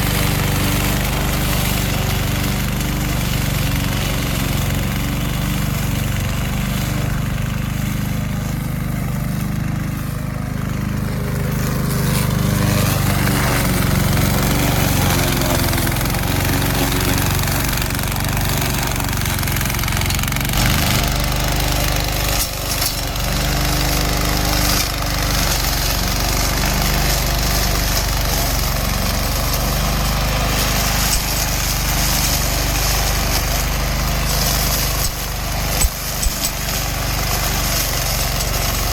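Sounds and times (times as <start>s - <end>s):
lawn mower engine hum: 0.0s - 38.9s.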